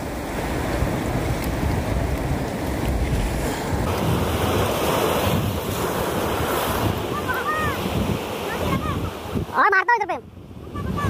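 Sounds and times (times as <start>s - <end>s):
surf breaking on rocks: 0.0s - 10.0s
wind rumbling on microphone: 0.0s - 11.0s.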